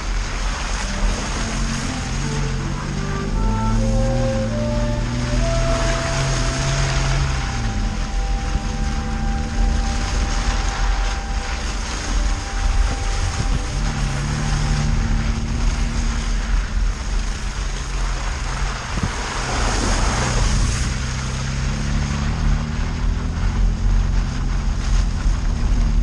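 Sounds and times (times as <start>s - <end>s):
off-road vehicle engine running: 0.0s - 26.0s
wind noise: 0.0s - 26.0s.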